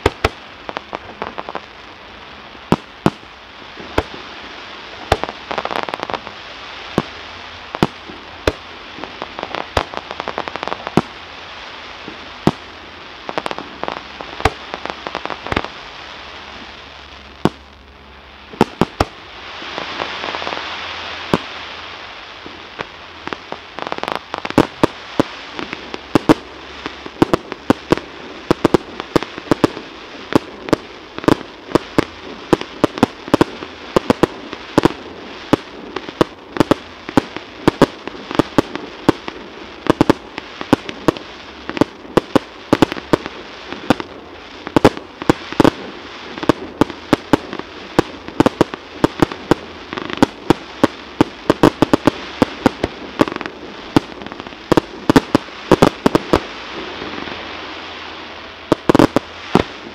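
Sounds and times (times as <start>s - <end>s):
fireworks bursting: 0.0s - 59.9s
steady background noise: 0.0s - 59.9s.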